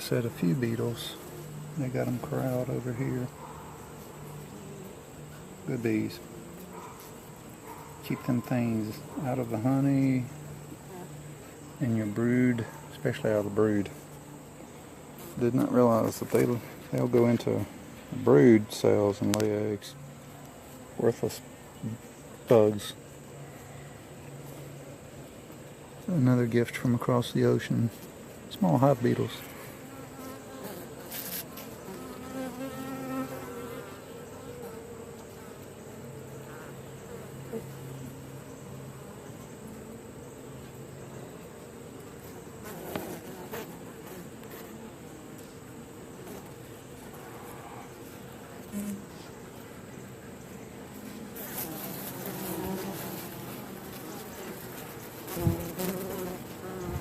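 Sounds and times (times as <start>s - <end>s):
bees buzzing: 0.0s - 26.9s, 28.1s - 57.0s.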